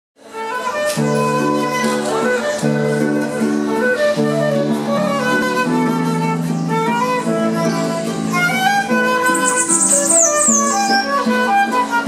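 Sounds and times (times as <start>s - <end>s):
flute melody: 0.2s - 12.0s.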